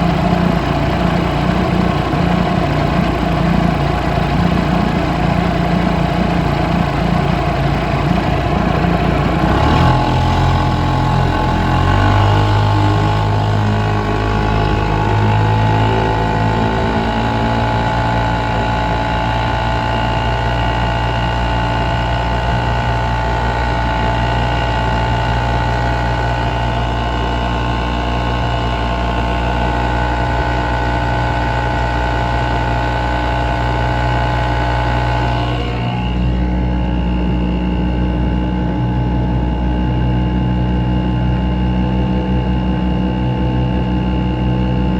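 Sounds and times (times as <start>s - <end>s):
outboard motor running: 0.0s - 44.9s.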